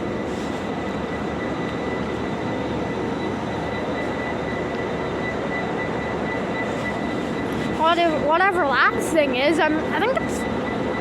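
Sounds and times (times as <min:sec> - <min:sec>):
diesel train engine idling: 0:00.0 - 0:11.0
thin high whine: 0:00.0 - 0:11.0.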